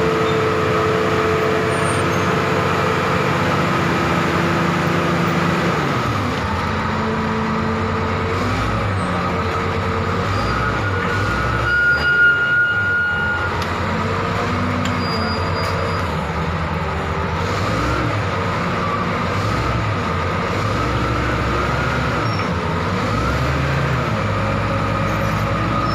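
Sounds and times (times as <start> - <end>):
diesel engine under load: 0.0 - 25.9
steel tracks rumbling over dirt: 0.0 - 25.9.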